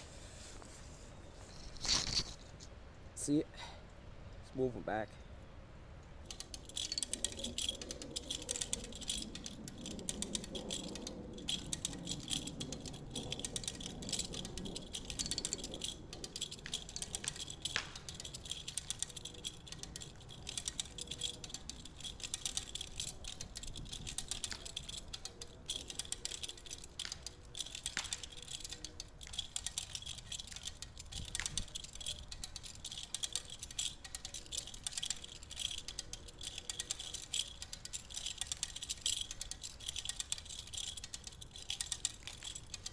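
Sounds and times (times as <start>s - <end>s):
winch ratcheting: 6.2s - 42.9s.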